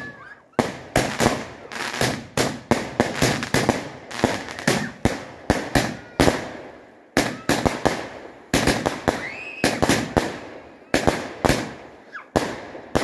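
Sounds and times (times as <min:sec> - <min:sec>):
firework bangs with crackle: 0:00.0 - 0:13.0.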